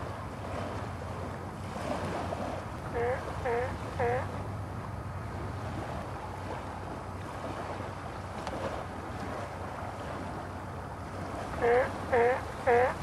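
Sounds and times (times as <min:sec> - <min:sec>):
sea: 0:00.0 - 0:13.0
wind: 0:00.0 - 0:13.0.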